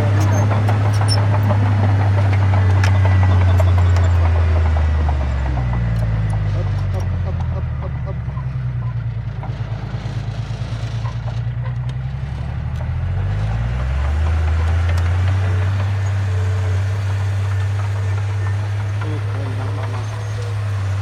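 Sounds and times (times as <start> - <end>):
heavy diesel engine revving: 0.0 - 21.0.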